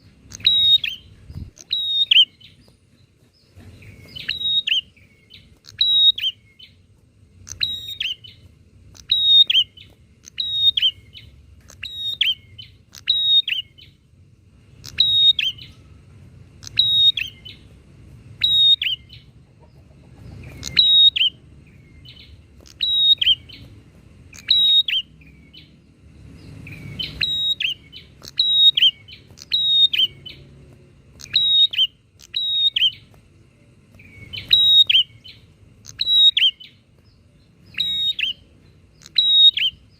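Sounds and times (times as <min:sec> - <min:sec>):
bird chip calls: 0:00.0 - 0:14.1, 0:14.7 - 0:33.3, 0:33.9 - 0:39.9
faint low background rumble: 0:00.0 - 0:39.9.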